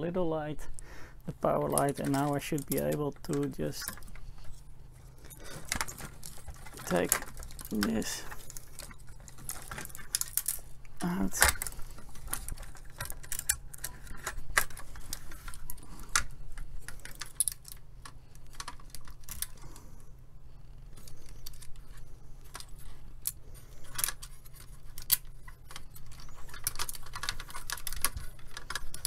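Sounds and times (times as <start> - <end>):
low steady hum: 0.0 - 29.0
metal parts clicking and rattling: 1.4 - 20.1, 20.9 - 29.0.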